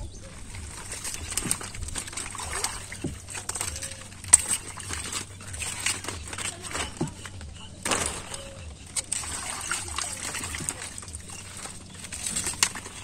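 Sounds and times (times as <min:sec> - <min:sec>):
leaves rustling: 0:00.0 - 0:13.0
pattering water: 0:00.0 - 0:13.0
plant stems snapping: 0:00.2 - 0:13.0.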